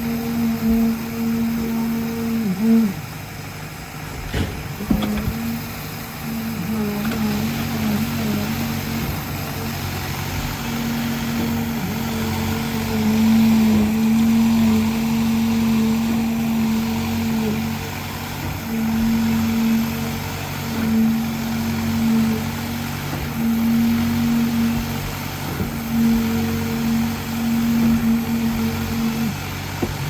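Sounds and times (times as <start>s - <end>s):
heavy engine droning: 0.0s - 30.0s
hum: 0.0s - 30.0s.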